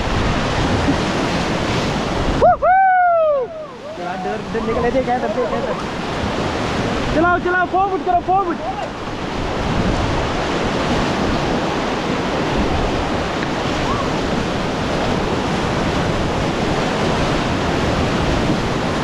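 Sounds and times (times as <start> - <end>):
whitewater rushing: 0.0 - 19.0
wind buffeting microphone: 0.0 - 19.0.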